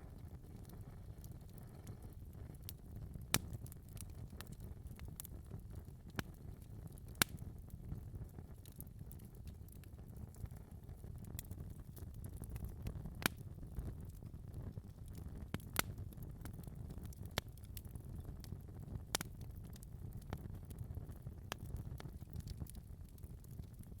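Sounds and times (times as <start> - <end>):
logs popping and crackling: 0.0 - 24.0
low rumble of flames: 0.0 - 24.0.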